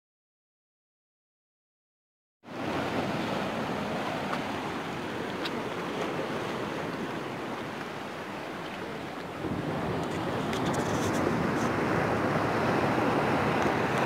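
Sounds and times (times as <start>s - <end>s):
surf washing over rocks: 2.5s - 14.0s.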